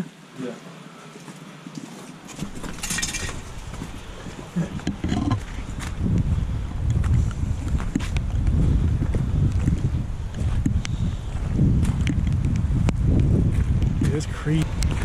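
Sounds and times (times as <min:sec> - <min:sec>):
wind buffeting microphone: 0:02.4 - 0:15.0.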